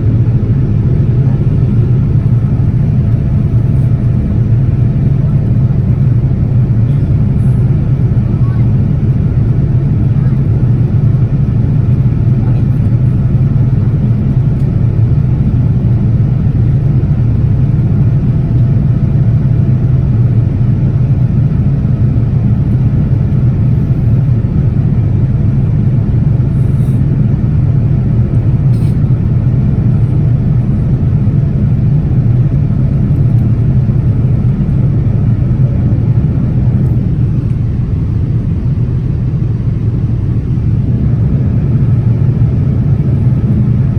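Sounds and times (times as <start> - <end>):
airliner cabin engine noise: 0.0 - 43.9.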